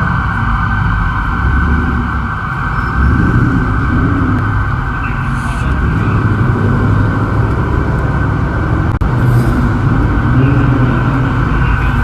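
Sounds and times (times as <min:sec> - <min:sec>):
loud car engine and exhaust: 0:00.0 - 0:12.0.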